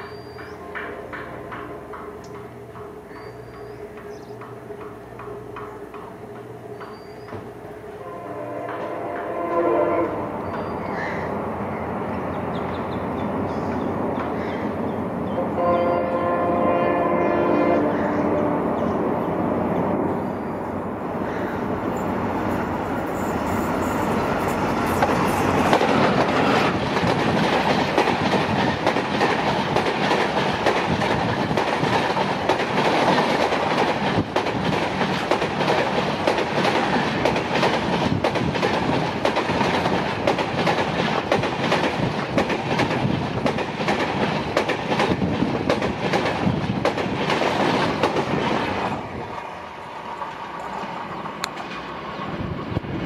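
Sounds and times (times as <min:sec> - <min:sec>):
passenger train rumbling past: 0:00.0 - 0:53.0.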